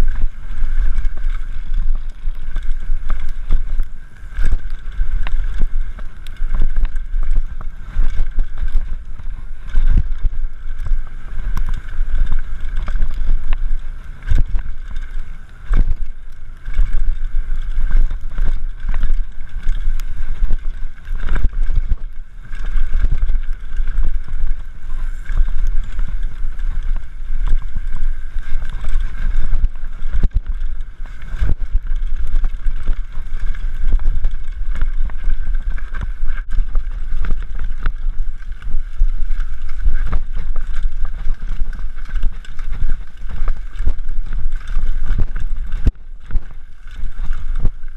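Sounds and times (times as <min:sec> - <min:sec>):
bike knocks and rattles: 0:00.0 - 0:47.9
wind buffeting microphone: 0:00.0 - 0:47.9.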